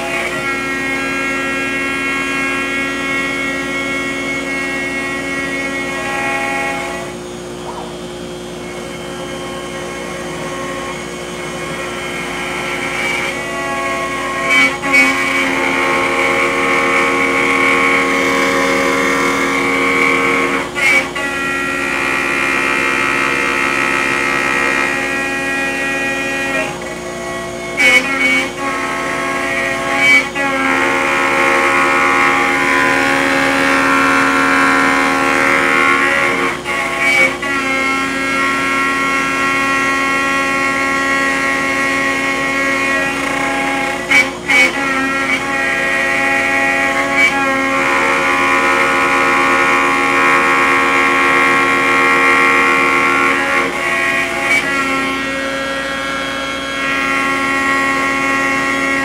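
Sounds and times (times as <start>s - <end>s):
router spindle whine cutting wood: 0.0s - 59.0s.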